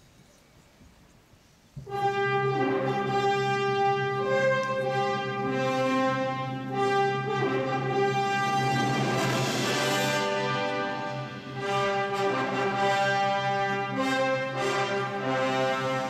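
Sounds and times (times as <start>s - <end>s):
orchestral music with held notes: 1.8s - 16.0s.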